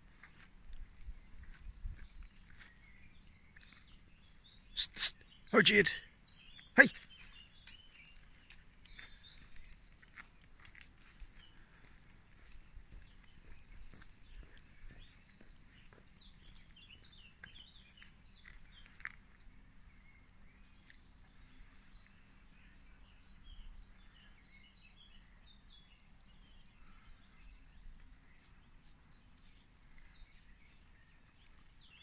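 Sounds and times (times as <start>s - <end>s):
faint birdsong chirps: 0.0s - 32.0s.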